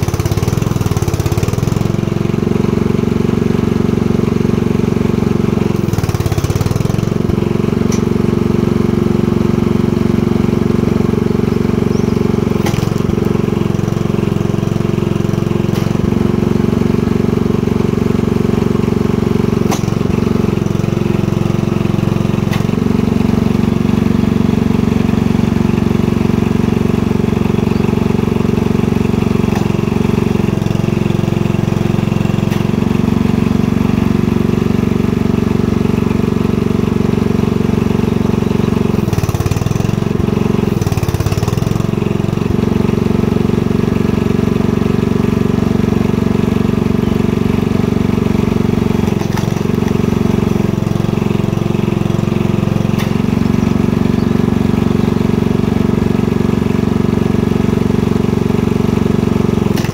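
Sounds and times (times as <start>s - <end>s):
log splitter engine running: 0.0s - 59.9s.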